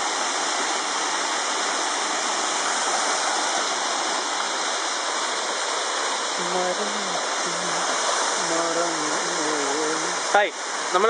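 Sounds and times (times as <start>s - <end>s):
waterfall rushing over rock: 0.0s - 11.0s.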